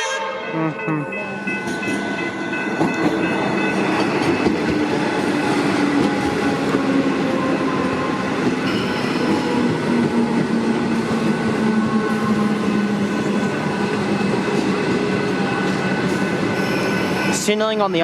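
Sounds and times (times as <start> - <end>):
train low hum: 0.0 - 18.0
train wheels rumbling on track: 1.4 - 18.0.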